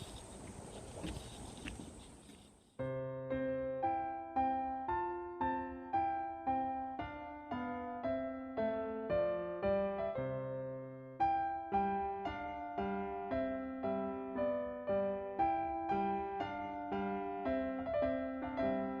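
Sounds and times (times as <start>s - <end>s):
gentle piano melody: 2.8s - 19.0s.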